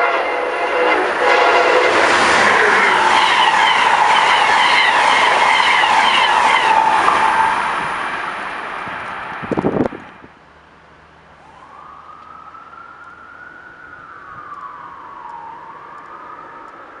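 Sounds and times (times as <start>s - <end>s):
distant siren wailing: 0.0s - 9.0s, 11.1s - 17.0s
train passing: 0.0s - 17.0s.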